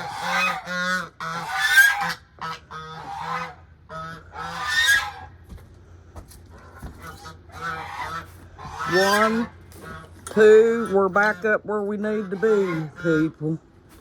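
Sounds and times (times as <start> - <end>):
geese honking: 0.0 - 5.5, 6.6 - 13.6.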